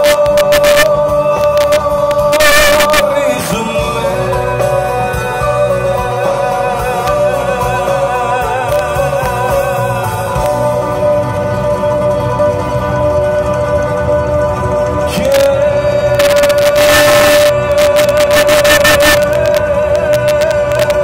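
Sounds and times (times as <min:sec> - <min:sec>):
man singing a long note: 0:00.0 - 0:12.2, 0:14.9 - 0:21.0
live band accompaniment: 0:00.0 - 0:21.0.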